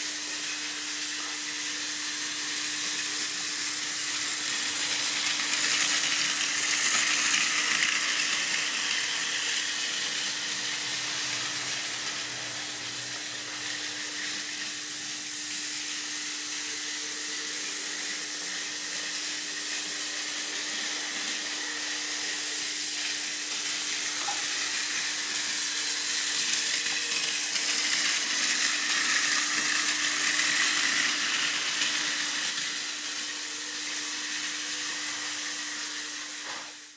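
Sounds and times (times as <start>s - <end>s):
toy train motor whirring: 0.0s - 36.9s
wheels hissing on plastic rails: 0.0s - 36.9s.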